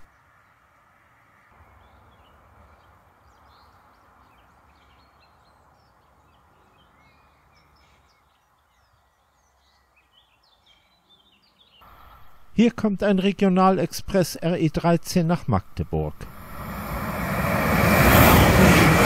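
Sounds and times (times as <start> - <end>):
birds chirping: 0.0 - 0.8, 1.4 - 16.6.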